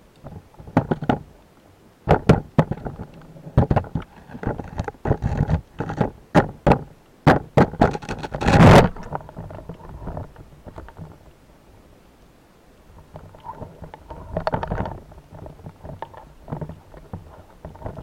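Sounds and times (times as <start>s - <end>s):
underwater knocks and clicks: 0.2s - 1.3s, 2.1s - 11.2s, 13.0s - 18.0s.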